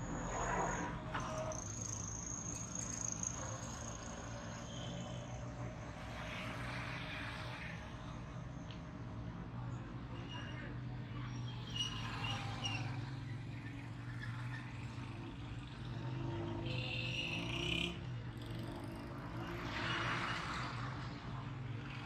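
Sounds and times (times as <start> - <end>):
motorcycle engines idling and passing: 0.0 - 22.0.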